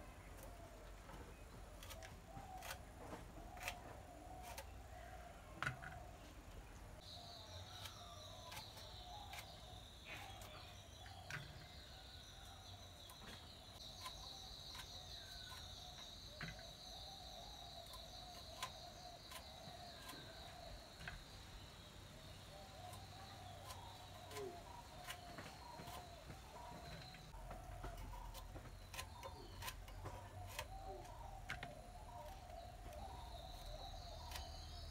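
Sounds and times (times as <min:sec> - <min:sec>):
faint bird calls: 0:00.0 - 0:34.9.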